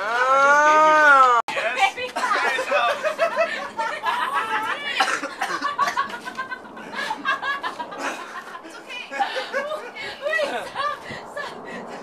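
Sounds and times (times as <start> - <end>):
people laughing: 1.5 - 12.0.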